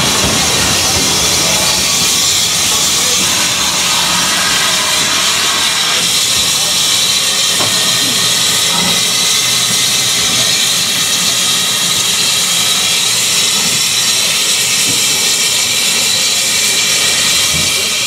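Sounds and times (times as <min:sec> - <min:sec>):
locomotive steam hissing: 0:00.0 - 0:18.0.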